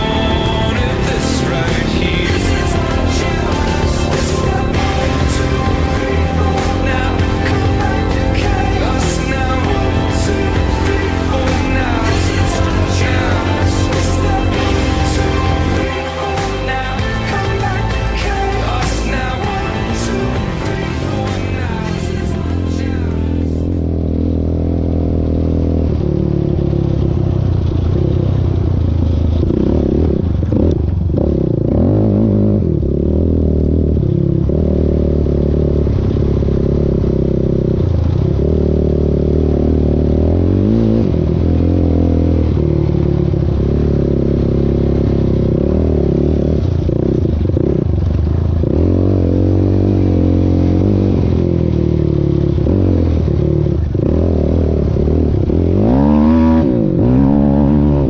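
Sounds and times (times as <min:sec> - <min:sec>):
off-road vehicle engine: 0:00.0 - 0:58.0
vehicle rattling over rough ground: 0:00.0 - 0:58.0.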